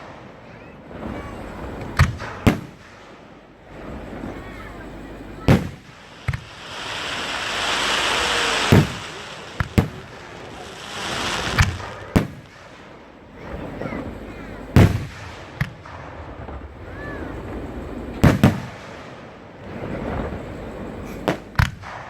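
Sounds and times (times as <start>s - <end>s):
firework hiss: 0.0s - 22.0s
fireworks booming: 0.0s - 22.0s.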